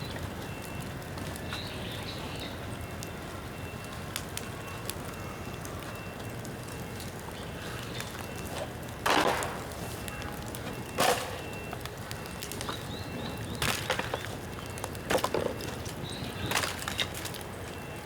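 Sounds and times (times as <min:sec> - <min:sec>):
bonfire crackling: 0:00.0 - 0:18.0
burning bamboo cracking: 0:00.0 - 0:18.0.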